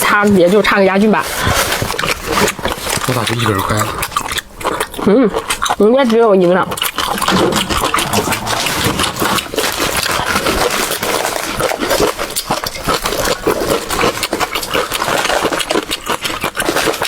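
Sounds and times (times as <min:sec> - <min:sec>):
wet chewing and slurping: 0:00.0 - 0:17.0
mouth smacks and clicks: 0:01.4 - 0:17.0.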